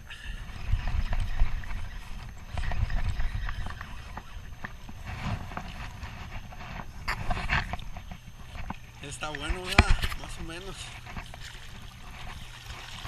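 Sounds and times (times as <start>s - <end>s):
water splashing: 0.4s - 13.0s.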